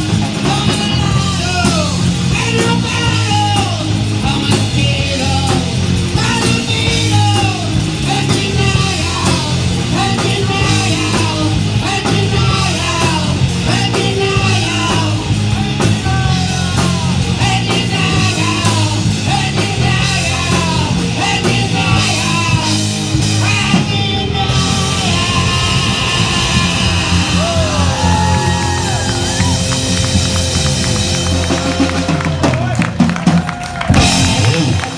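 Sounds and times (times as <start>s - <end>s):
drum kit: 0.0s - 34.9s
electric guitar: 0.0s - 34.9s
keyboard: 0.0s - 34.9s
person singing: 0.2s - 29.7s.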